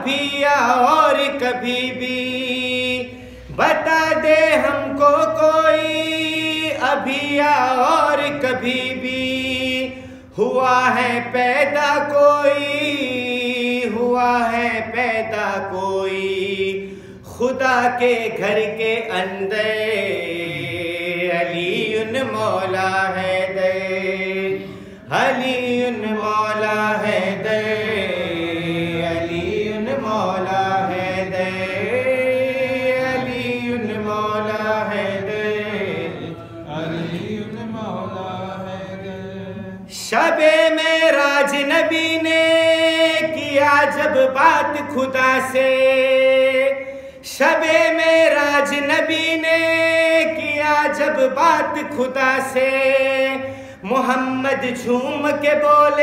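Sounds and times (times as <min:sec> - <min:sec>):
man singing devotional chant: 0:00.0 - 0:56.0.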